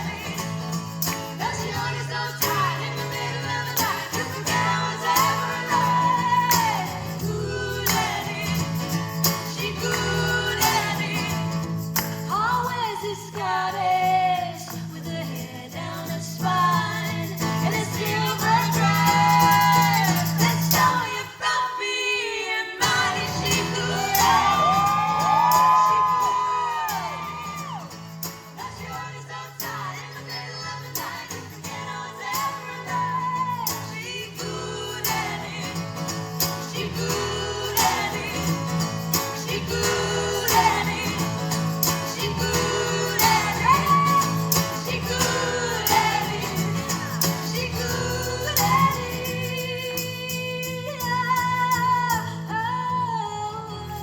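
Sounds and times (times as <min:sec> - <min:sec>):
person singing lead vocal: 0:00.0 - 0:11.7, 0:12.3 - 0:27.8, 0:28.6 - 0:54.0
bass: 0:00.0 - 0:21.3, 0:22.8 - 0:54.0.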